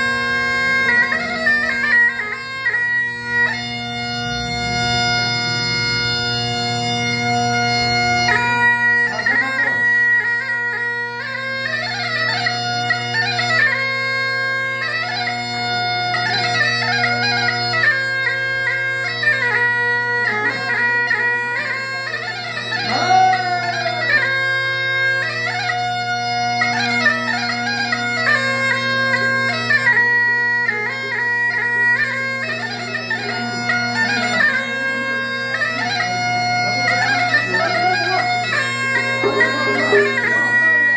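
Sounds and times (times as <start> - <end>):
bagpipe melody over drone: 0.0 - 40.9.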